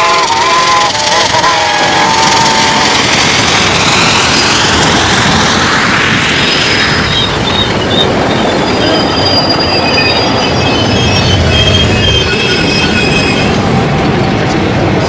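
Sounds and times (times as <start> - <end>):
high squealing brakes: 0.0 - 5.0, 6.1 - 13.8
train wheels rumbling on rail: 0.0 - 15.0.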